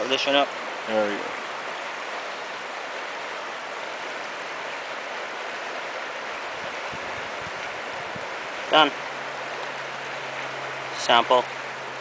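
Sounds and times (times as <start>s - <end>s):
river rushing over gravel: 0.0s - 12.0s.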